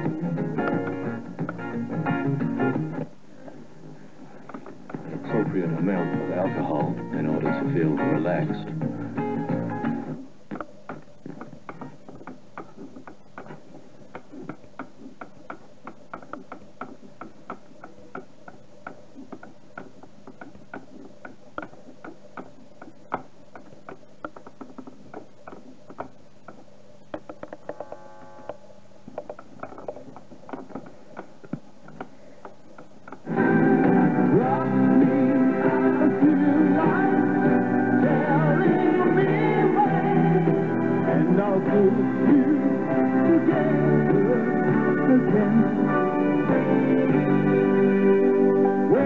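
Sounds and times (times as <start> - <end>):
faint steady hum: 0.0 - 49.0
radio static crackle: 0.0 - 49.0
steady radio tones: 0.0 - 49.0.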